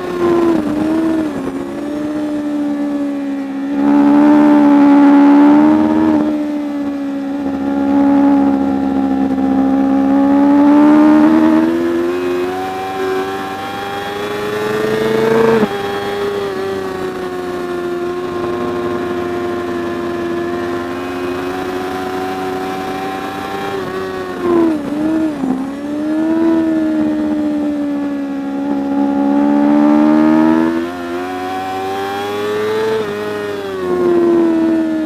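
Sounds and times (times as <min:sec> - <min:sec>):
motorcycle engine high revs: 0:00.0 - 0:35.0.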